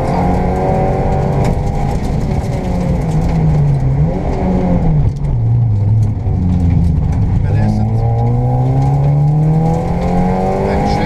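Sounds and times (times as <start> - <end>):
rally car engine revving hard: 0.0 - 11.0.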